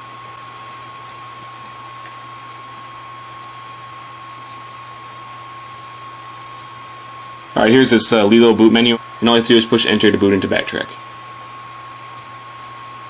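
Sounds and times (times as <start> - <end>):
thin steady whine: 0.0 - 13.0.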